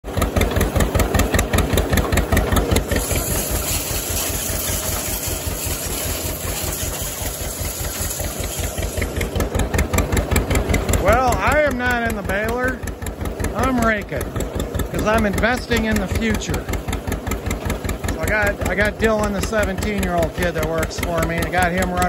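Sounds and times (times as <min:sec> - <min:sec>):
tractor engine running: 0:00.0 - 0:22.0
regular pulsing beat: 0:02.6 - 0:22.0.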